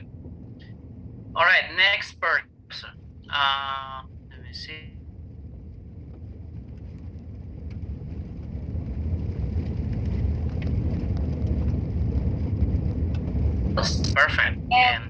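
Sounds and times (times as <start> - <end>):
road and wind noise inside vehicle: 0.0 - 15.0.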